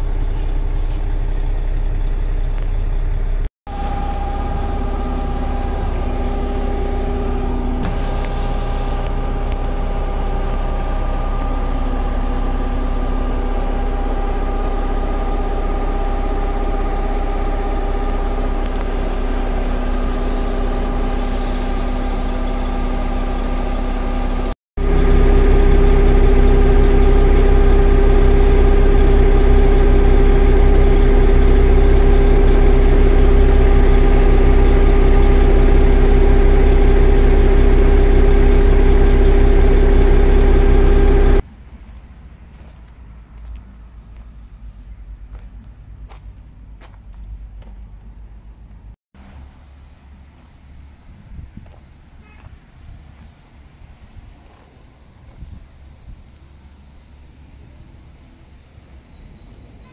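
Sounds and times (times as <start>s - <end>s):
diesel pump engine humming: 0.0s - 48.3s.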